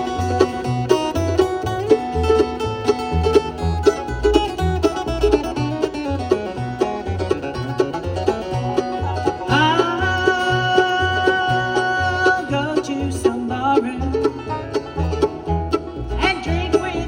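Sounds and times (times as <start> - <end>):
picked banjo notes: 0.0 - 17.0
walking bass line: 0.0 - 17.0.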